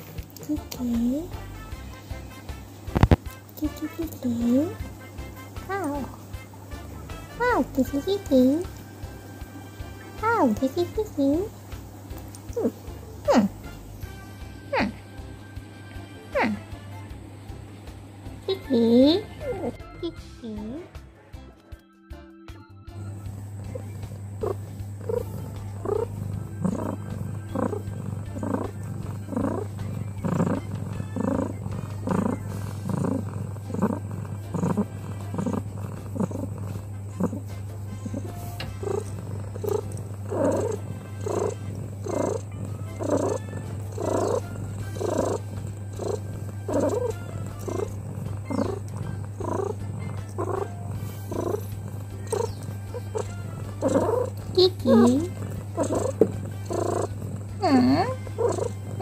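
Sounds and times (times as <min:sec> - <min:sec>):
cat purring: 0:00.0 - 0:21.3, 0:22.9 - 0:59.0
background music: 0:00.0 - 0:59.0.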